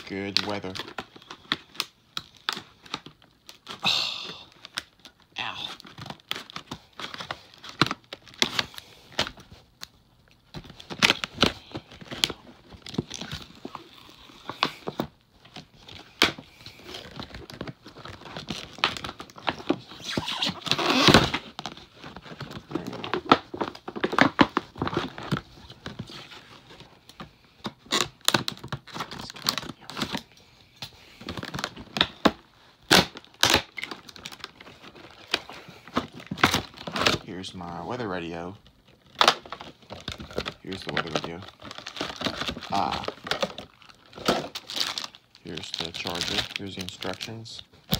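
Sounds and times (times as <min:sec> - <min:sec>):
plastic packaging crinkling and cracking: 0:00.0 - 0:47.9.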